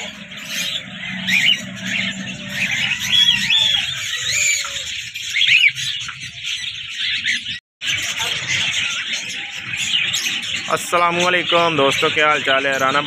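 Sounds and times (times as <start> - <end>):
parakeet chicks calling: 0.0 - 13.0.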